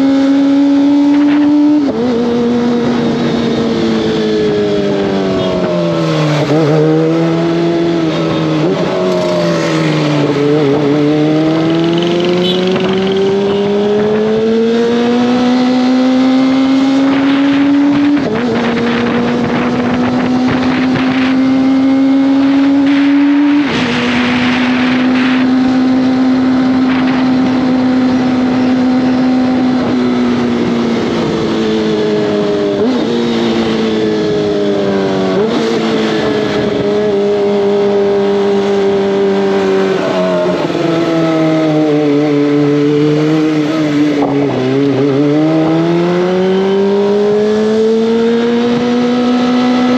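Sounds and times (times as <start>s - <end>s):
motorcycle engine revving and shifting: 0.0s - 49.9s.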